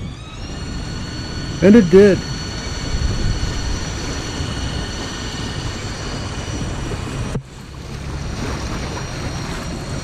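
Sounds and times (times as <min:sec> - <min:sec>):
outboard motor: 0:00.0 - 0:10.0
wind buffeting microphone: 0:00.0 - 0:10.0.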